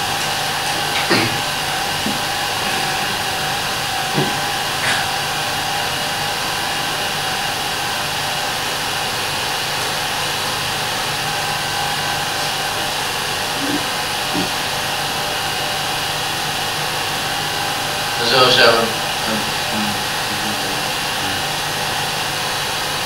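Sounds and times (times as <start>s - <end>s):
film projector whirring: 0.0s - 23.0s.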